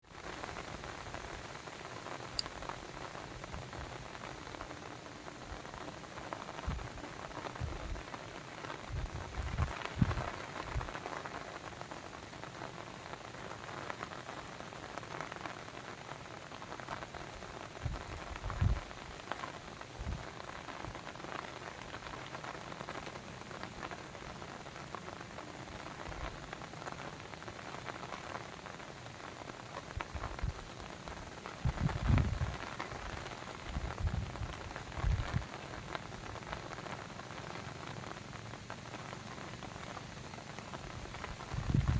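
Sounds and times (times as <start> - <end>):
rain drops hitting a surface: 0.0 - 41.9.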